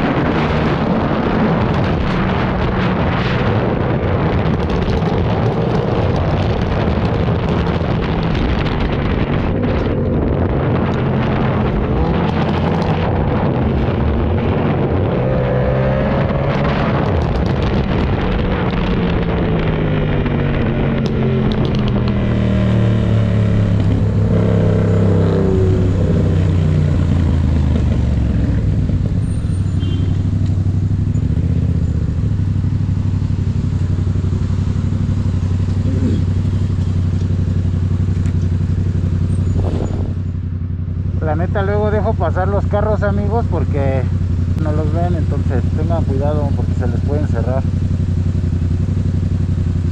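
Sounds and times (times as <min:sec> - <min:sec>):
wind noise on microphone: 0:00.0 - 0:41.3
motorcycle engine revving: 0:00.0 - 0:49.9.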